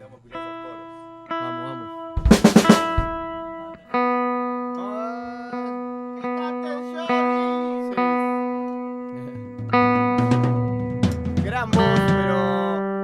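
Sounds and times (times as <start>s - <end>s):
guitar chord strumming: 0.0s - 13.0s.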